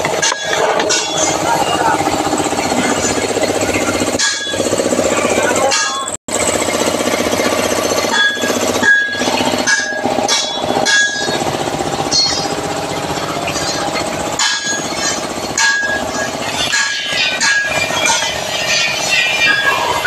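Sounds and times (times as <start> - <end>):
power tool hammering: 0.0 - 20.0.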